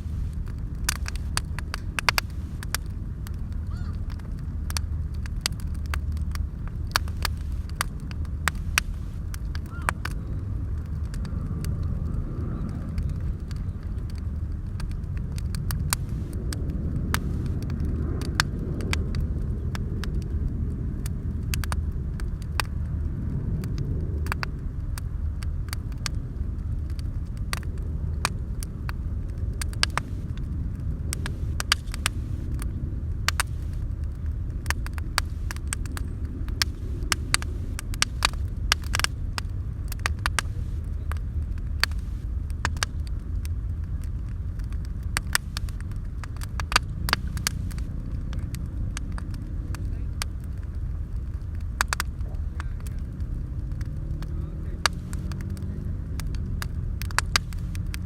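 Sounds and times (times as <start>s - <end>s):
bonfire crackling and popping: 0.0s - 58.0s.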